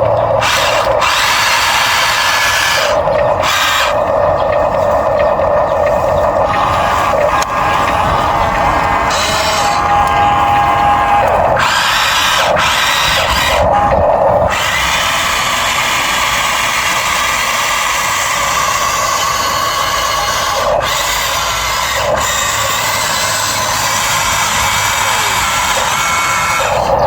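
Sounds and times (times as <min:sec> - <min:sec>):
electric motors whirring: 0:00.0 - 0:27.0.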